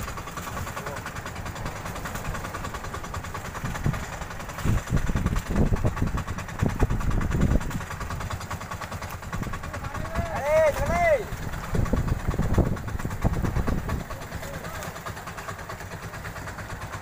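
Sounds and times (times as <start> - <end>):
boat engine idling: 0.0 - 17.0
choppy sea: 0.0 - 17.0.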